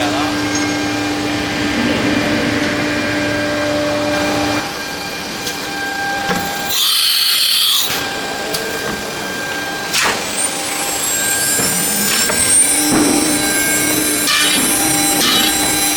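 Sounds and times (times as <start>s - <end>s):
machine running with whining tones: 0.0s - 15.9s.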